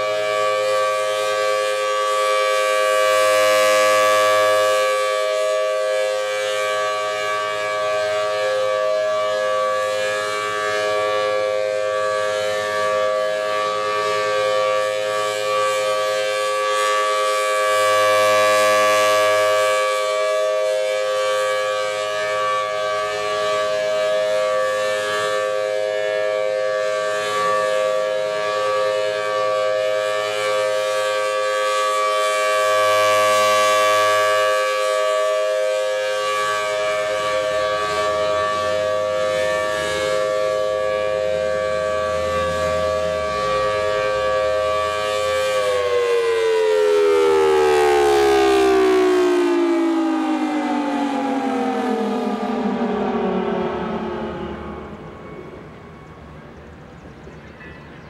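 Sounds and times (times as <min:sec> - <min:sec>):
rotating siren steady tone: 0:00.0 - 0:58.0.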